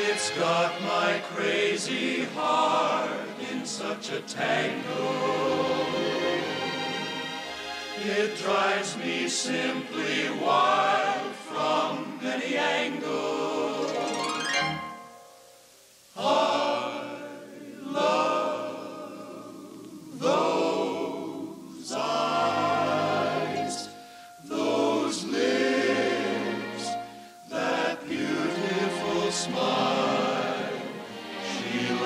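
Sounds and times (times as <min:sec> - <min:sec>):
film score with choir singing: 0:00.0 - 0:32.0.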